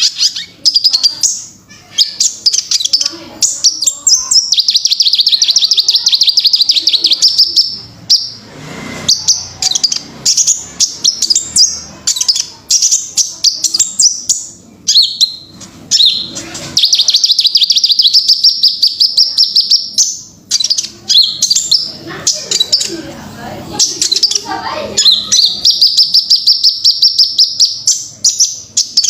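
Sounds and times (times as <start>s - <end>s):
sharp bird chips: 0.0s - 23.0s, 23.7s - 29.0s
sunbird trilling: 0.0s - 23.0s, 23.7s - 29.0s.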